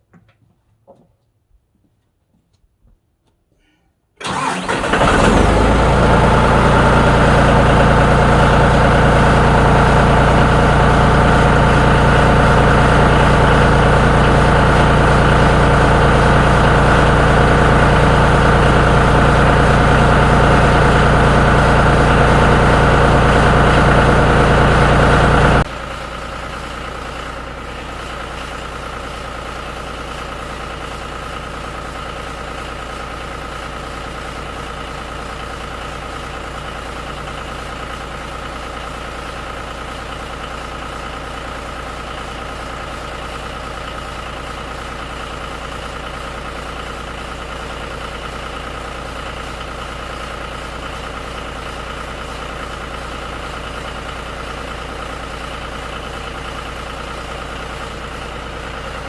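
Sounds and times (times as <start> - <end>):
diesel tractor engine idling: 4.2 - 59.0.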